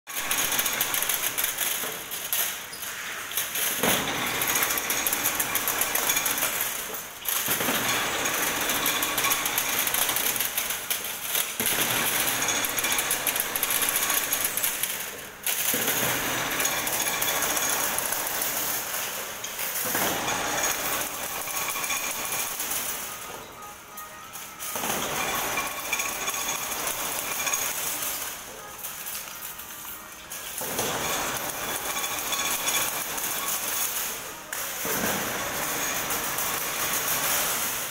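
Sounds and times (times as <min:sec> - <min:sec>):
wire crimping machine clattering: 0:00.1 - 0:37.9.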